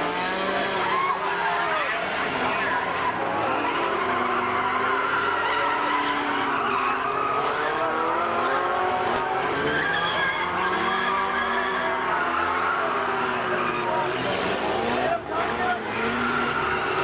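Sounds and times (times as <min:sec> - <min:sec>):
stock car engines revving: 0:00.0 - 0:17.0.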